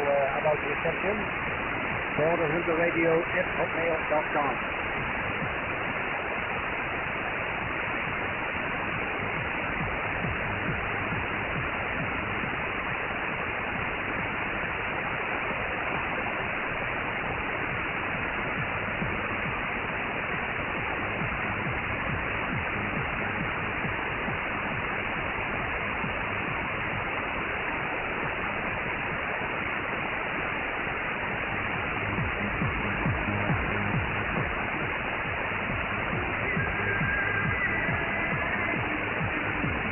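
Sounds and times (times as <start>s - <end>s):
shortwave radio hiss and static: 0.0s - 39.9s.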